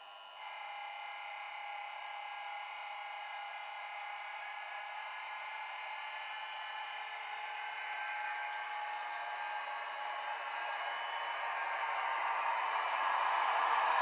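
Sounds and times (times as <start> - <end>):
electric locomotive whine: 0.0 - 14.0.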